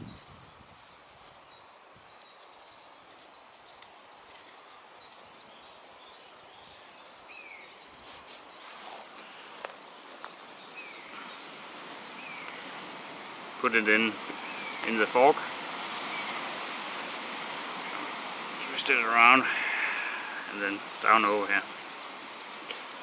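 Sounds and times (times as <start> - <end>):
birds chirping and trilling: 0.0 - 23.0
soft steady hiss: 0.0 - 23.0.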